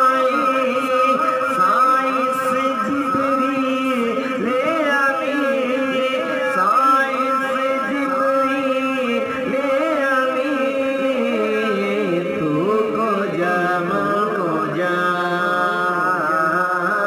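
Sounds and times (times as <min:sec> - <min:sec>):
person chanting a melody: 0:00.0 - 0:17.0.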